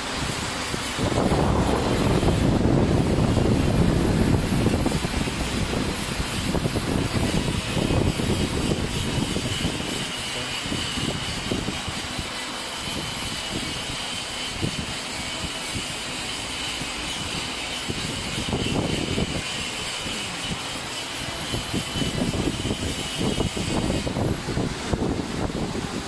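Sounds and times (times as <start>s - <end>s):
high machine whine: 0.0s - 26.0s.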